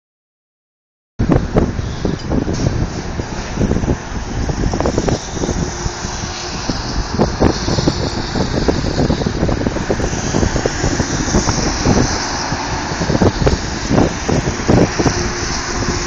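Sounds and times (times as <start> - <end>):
vehicle low rumble: 1.2 - 16.0.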